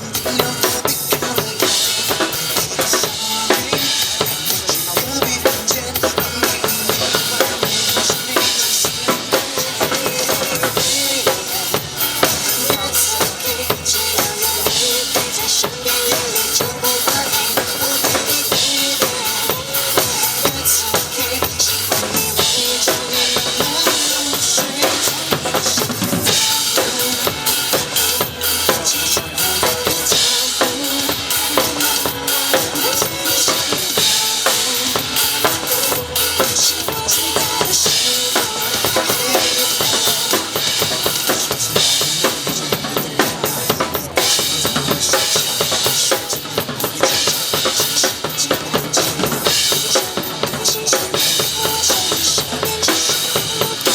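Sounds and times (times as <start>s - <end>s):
backing music: 0.0s - 53.9s
drum kit playing a groove: 0.0s - 53.9s.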